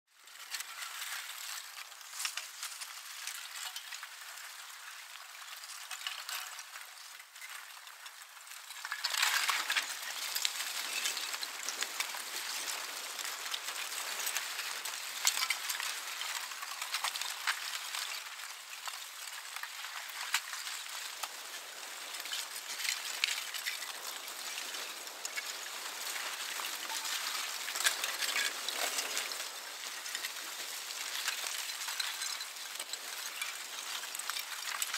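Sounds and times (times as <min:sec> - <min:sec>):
lava clinker crackling and clinking: 0:00.2 - 0:34.9.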